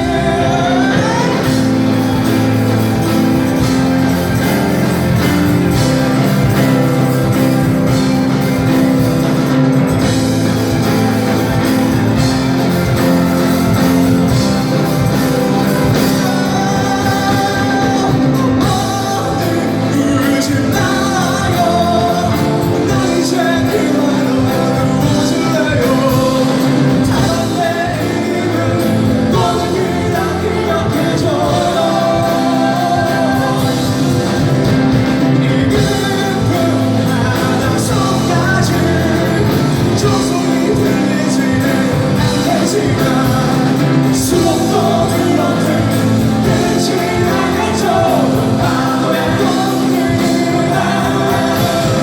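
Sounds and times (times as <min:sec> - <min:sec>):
rock band with singing: 0:00.0 - 0:52.0.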